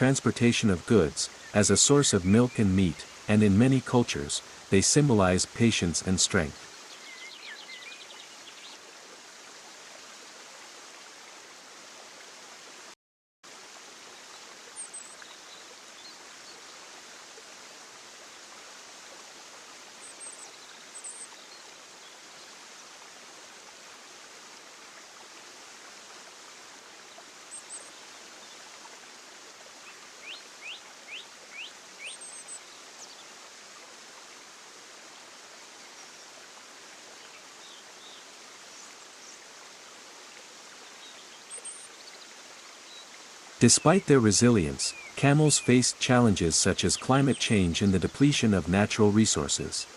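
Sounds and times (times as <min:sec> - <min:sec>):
rushing water: 0:00.0 - 0:49.9.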